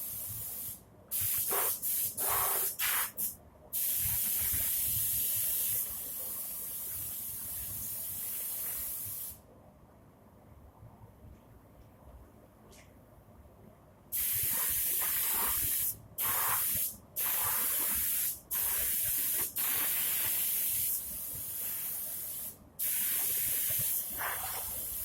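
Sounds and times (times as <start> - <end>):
pressurised spray hissing: 0.0 - 9.4, 14.2 - 25.0.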